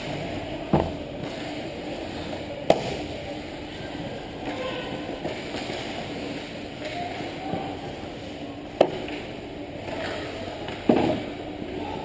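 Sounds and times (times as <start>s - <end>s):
voices echoing: 0.0s - 12.0s
skates on ice: 1.1s - 11.4s.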